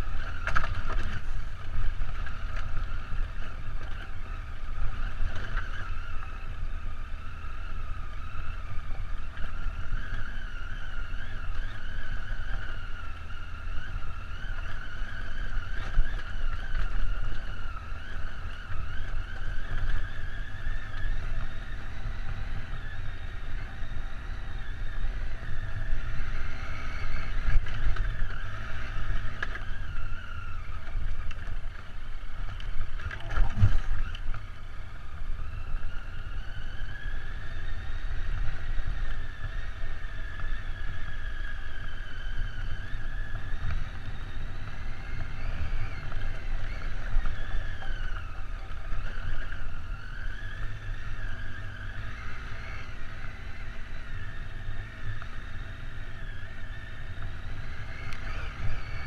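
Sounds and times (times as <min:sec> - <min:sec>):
low rumble of ride on gravel: 0:00.0 - 0:59.0
motorcycle engine running: 0:00.0 - 0:59.0.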